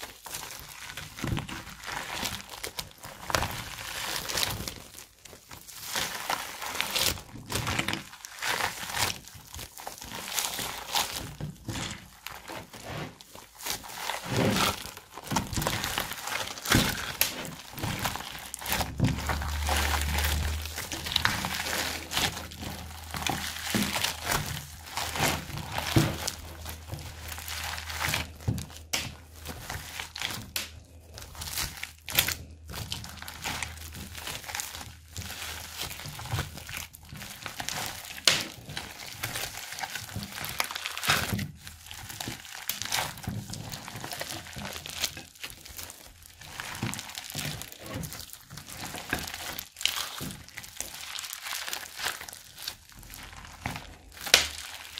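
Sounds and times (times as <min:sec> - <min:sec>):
foam slime crackling and popping: 0:00.0 - 0:54.9.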